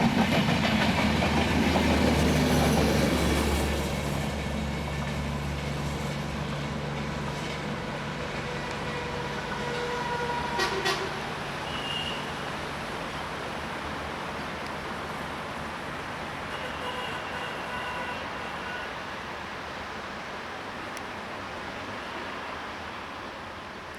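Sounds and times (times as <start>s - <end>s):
passing train rumble: 0.0s - 23.9s.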